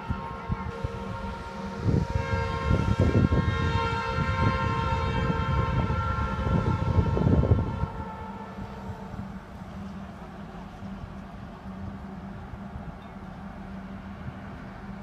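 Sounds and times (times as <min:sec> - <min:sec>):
locomotive air horn: 0:00.0 - 0:12.8.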